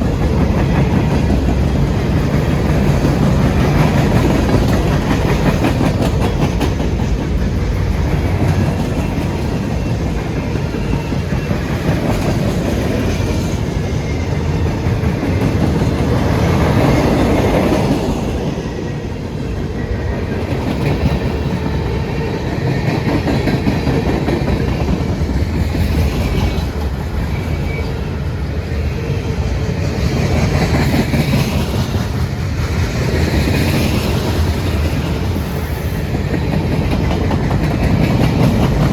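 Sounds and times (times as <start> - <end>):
train wheels clattering over rails: 0.0 - 28.1, 28.9 - 38.9.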